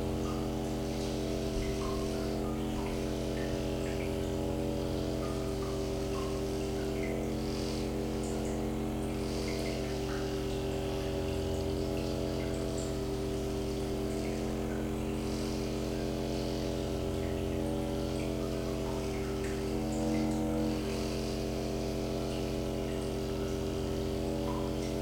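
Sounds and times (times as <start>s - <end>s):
drone of held tones: 0.0s - 25.0s
low hum: 0.0s - 25.0s.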